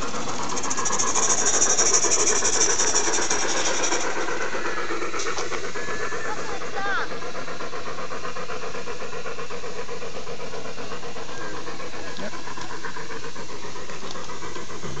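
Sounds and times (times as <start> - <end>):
constant steam hiss: 0.0 - 15.0
steam locomotive chuffing: 0.0 - 15.0.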